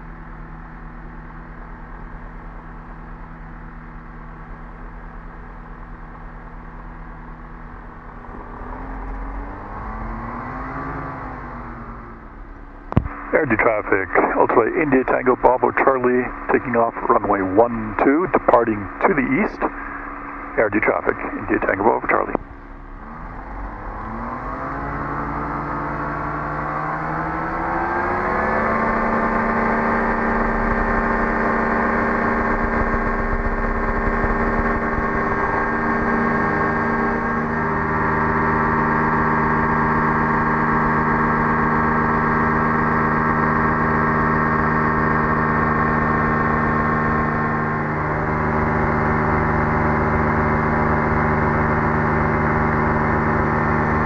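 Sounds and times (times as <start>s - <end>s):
aircraft engine and propeller: 0.0s - 54.0s.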